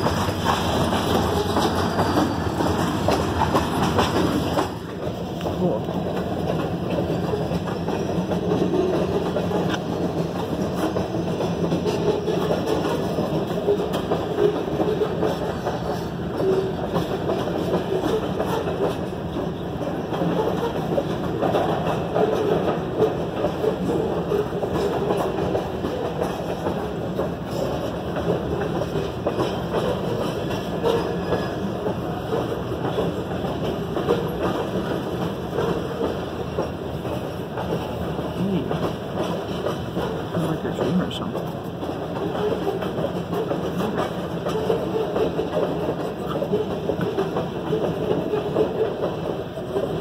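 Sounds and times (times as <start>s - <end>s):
freight train rolling past: 0.0s - 50.0s
steel wheels on rails: 0.0s - 50.0s.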